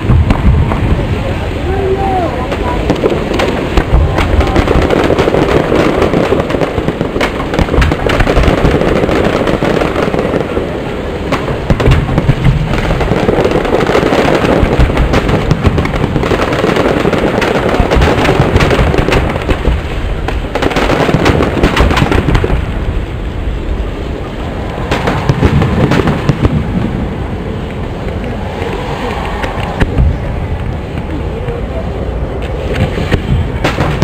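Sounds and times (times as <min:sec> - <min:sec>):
continuous rumble: 0:00.0 - 0:34.0
fireworks bursting: 0:00.0 - 0:34.0.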